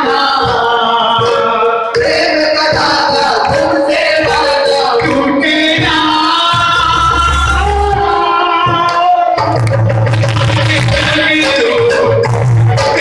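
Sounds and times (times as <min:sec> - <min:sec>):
man singing through a microphone: 0:00.0 - 0:13.0.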